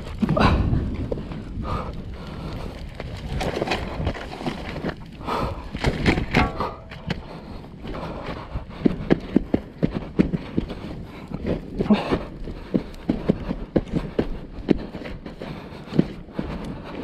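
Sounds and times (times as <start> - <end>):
fire crackling: 0.0 - 17.0
scuffs and knocks of movement: 0.0 - 17.0.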